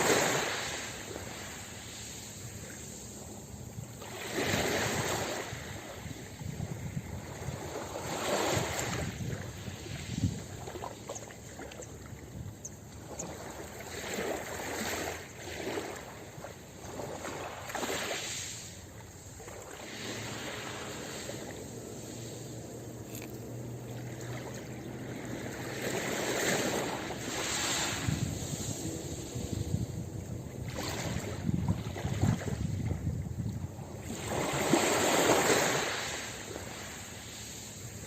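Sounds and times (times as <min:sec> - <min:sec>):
ocean waves washing onto beach: 0:00.0 - 0:38.0.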